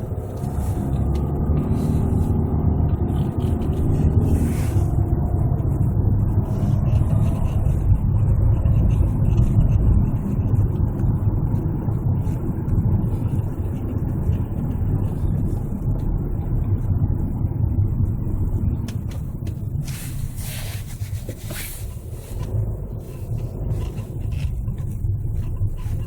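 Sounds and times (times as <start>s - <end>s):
road noise inside car cabin: 0.0s - 26.0s.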